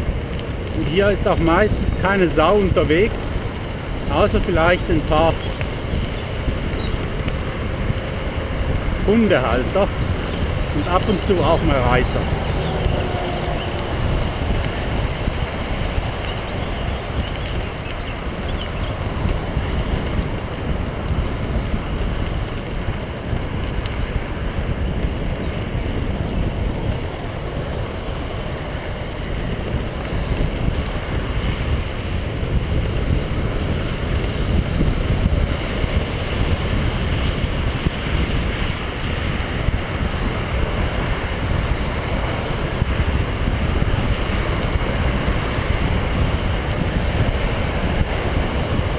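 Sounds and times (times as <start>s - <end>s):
tyres rolling over gravel: 0.0s - 48.9s
wind buffeting microphone: 0.0s - 48.9s.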